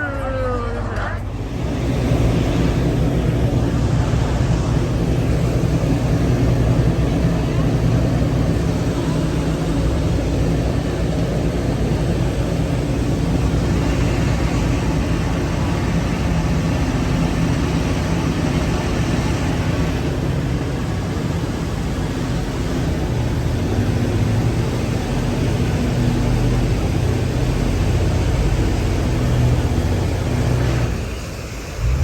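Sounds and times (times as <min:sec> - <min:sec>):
boat engines droning: 0:00.0 - 0:32.0.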